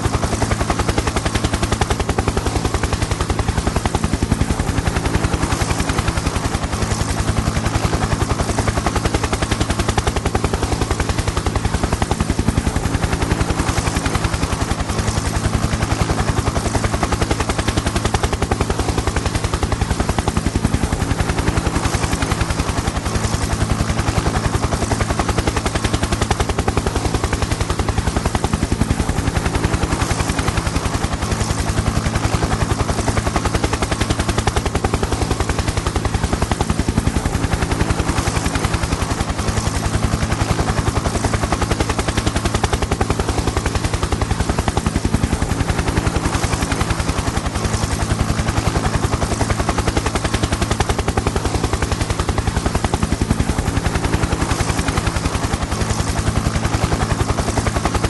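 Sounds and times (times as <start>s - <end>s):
engine and turbine hum: 0.0s - 58.0s
helicopter rotor chopping: 0.0s - 58.0s.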